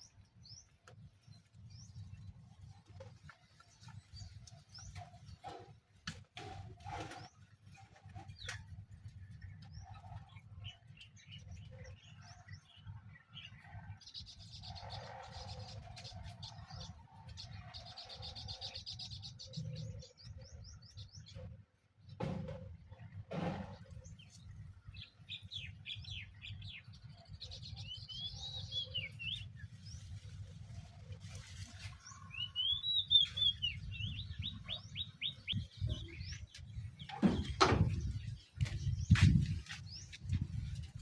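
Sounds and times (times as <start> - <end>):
birds chirping: 6.9 - 41.0.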